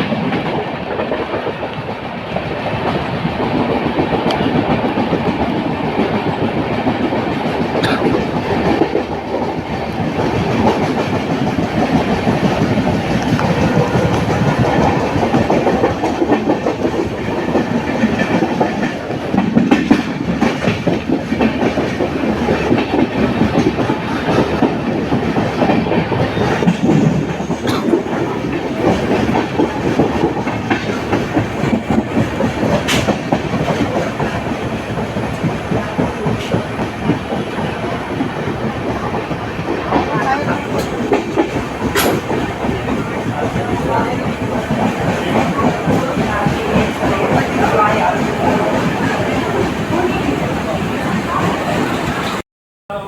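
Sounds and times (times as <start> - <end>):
clickety-clack over rail joints: 0.0 - 52.4
train wheels rumbling on track: 0.0 - 52.4.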